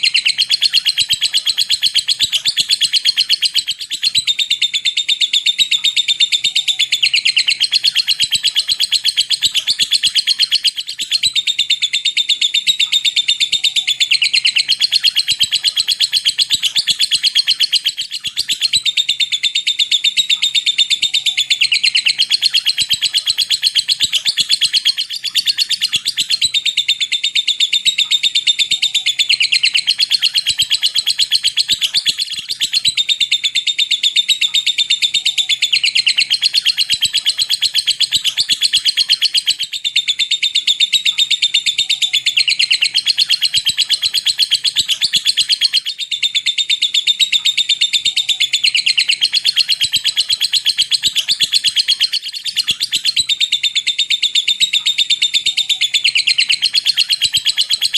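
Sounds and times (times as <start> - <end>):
lovebird chattering trill: 0.0 - 57.9.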